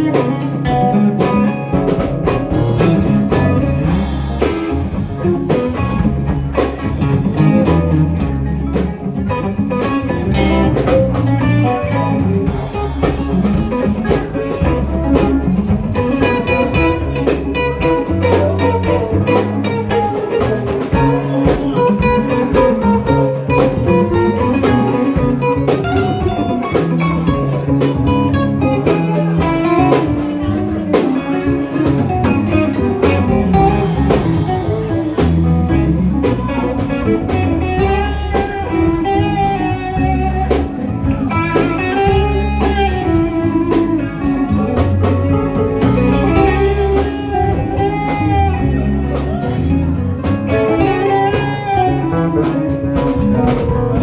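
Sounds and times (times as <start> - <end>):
electric guitar lines: 0.0 - 54.0
rock band playing: 0.0 - 54.0.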